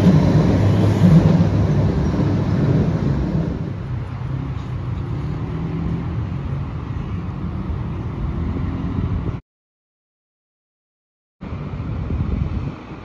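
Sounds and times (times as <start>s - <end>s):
low rumble of street traffic: 0.0s - 9.4s, 11.4s - 13.0s
wind buffeting microphone: 0.0s - 9.4s, 11.4s - 13.0s.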